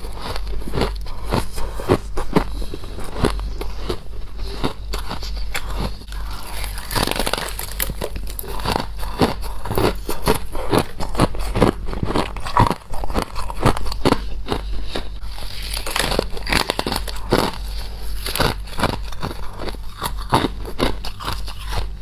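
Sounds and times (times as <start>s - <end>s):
crunchy frost chewing: 0.0s - 22.0s.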